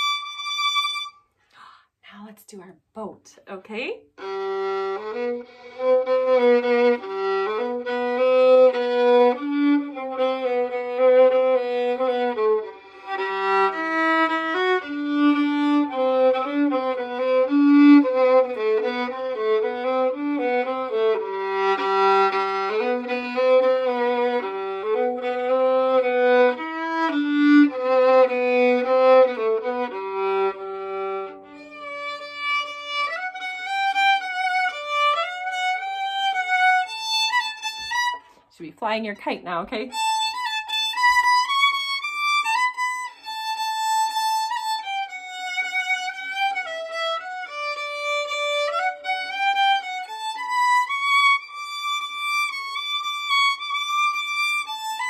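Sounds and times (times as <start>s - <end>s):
solo fiddle playing: 0.0s - 1.4s, 4.2s - 38.5s, 39.8s - 55.0s.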